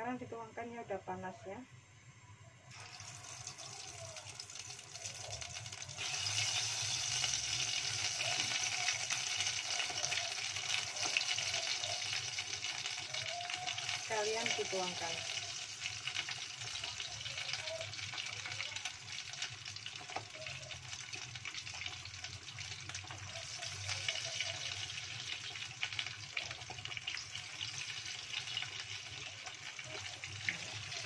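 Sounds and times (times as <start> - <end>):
chicken deep-frying in hot oil: 2.6 - 31.0.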